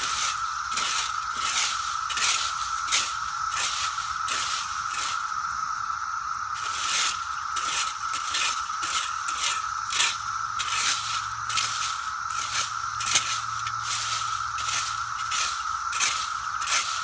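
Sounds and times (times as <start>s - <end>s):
cicada chorus drone: 0.0s - 17.0s
rake scraping through cicadas: 0.0s - 17.0s.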